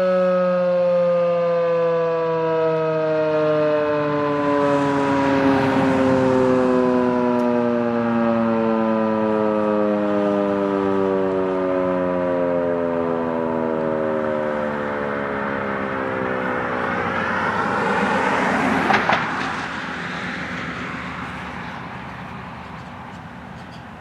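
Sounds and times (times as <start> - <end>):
siren winding down: 0.0 - 24.0.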